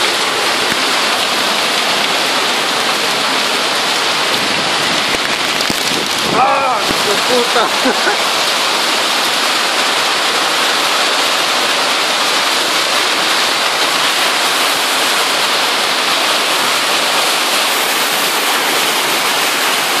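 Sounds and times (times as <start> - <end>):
heavy rain and hail: 0.0 - 20.0
water spilling off roof edge: 0.0 - 20.0.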